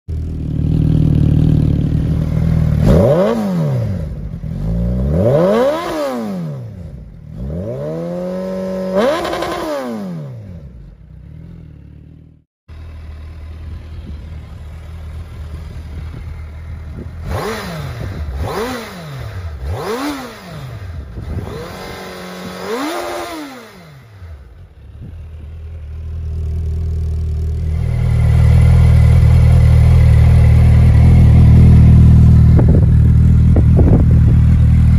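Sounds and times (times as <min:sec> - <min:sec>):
motorcycle engine idling and revving: 0:00.1 - 0:34.9.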